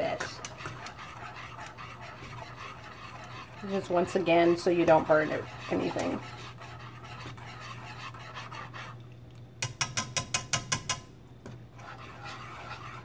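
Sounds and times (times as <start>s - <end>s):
whisk scraping saucepan: 0.0s - 11.0s, 11.7s - 13.0s
steady low hum: 0.0s - 13.0s
whisk wires tapping pan: 0.0s - 13.0s.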